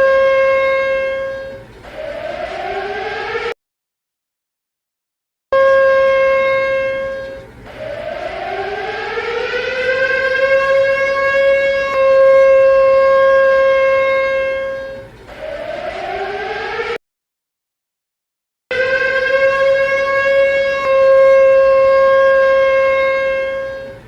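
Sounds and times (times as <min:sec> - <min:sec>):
siren wailing: 0:00.0 - 0:03.6, 0:05.6 - 0:17.0, 0:18.7 - 0:24.0.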